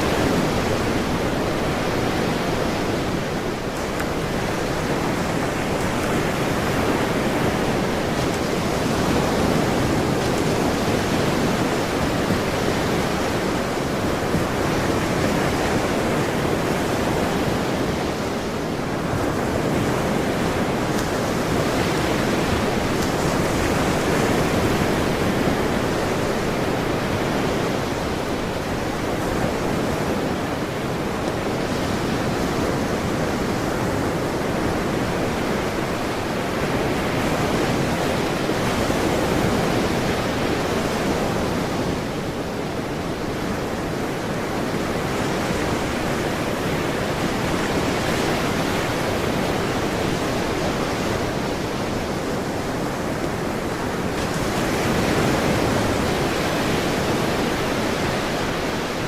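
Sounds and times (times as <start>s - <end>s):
ocean surf: 0.0s - 59.0s.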